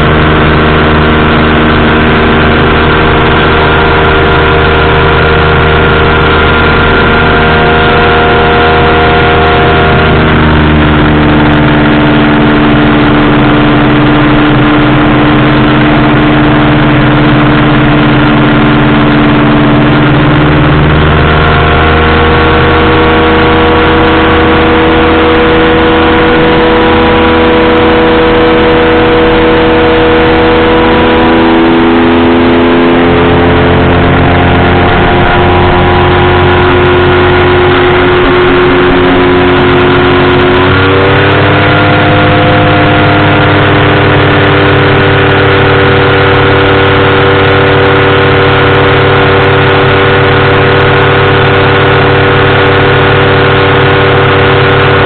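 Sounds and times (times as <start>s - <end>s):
engine and propeller running: 0.0s - 55.0s.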